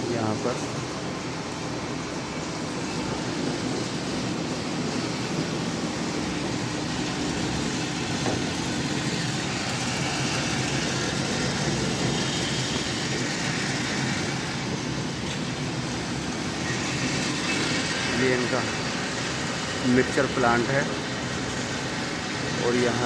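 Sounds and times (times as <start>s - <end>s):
mill machinery droning: 0.0s - 23.0s.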